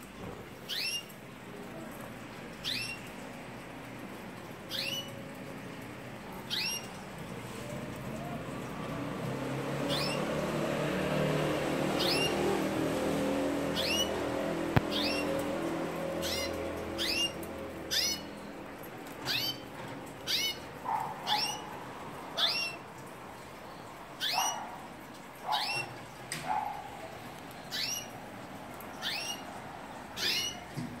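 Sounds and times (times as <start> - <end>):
canaries calling: 0.6 - 1.2, 2.6 - 3.3, 4.4 - 5.4, 6.2 - 7.5, 8.2 - 31.0.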